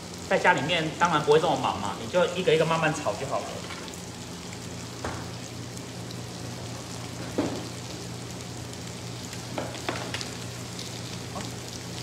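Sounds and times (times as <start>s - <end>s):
onions sizzling in frying pan: 0.0s - 12.0s.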